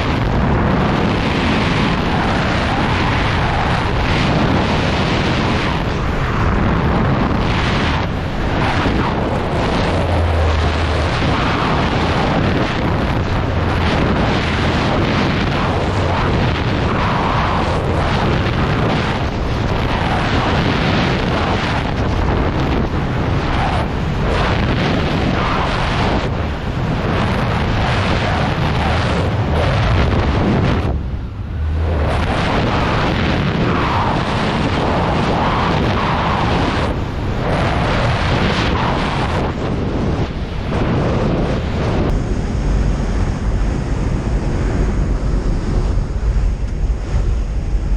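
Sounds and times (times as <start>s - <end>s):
wind buffeting the microphone: 0.0s - 47.9s.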